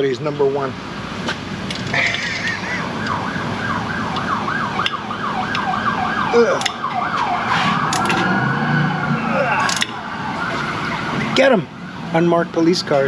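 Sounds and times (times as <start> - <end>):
police siren yelping and wailing: 1.9 - 13.0.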